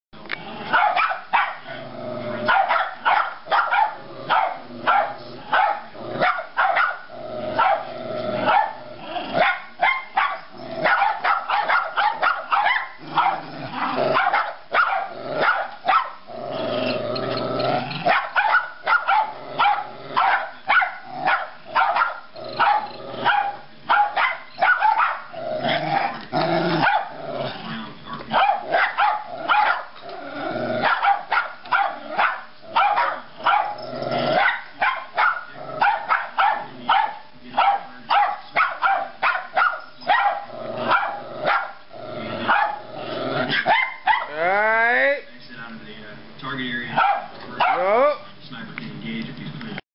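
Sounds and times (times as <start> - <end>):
dogs barking and growling: 0.2 - 45.2, 46.9 - 48.3.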